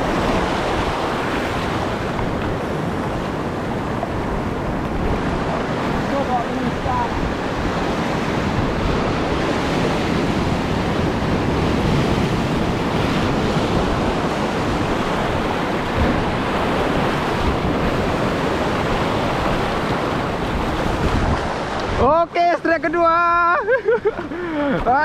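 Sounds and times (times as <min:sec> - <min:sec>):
wind buffeting microphone: 0:00.0 - 0:22.7
sea surf washing: 0:00.0 - 0:25.0.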